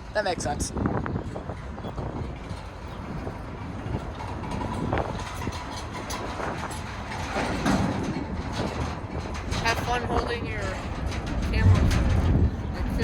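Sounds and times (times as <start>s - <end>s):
train clicks and clanks: 0.0s - 13.0s
train wheels rumbling on track: 0.0s - 13.0s.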